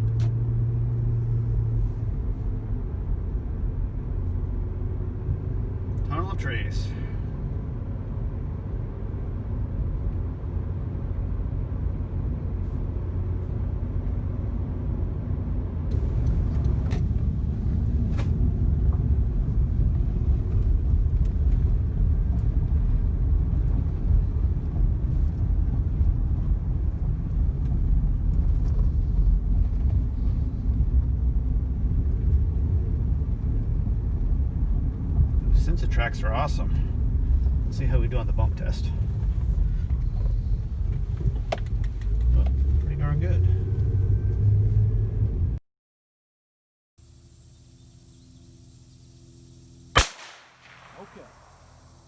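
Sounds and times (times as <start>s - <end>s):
road and tyre rumble in car: 0.0s - 45.6s.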